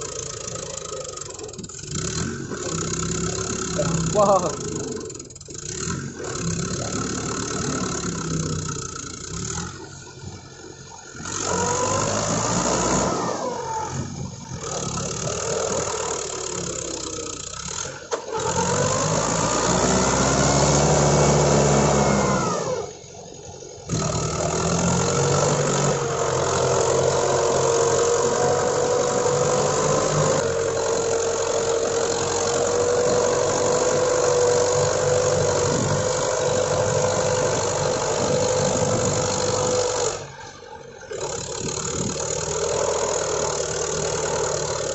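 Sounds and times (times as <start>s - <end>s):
tractor diesel engine revving: 0.0s - 44.9s.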